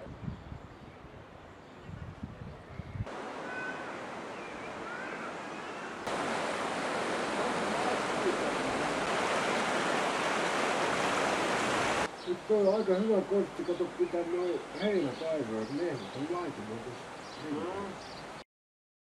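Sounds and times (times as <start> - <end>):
rushing water: 3.1 - 18.4.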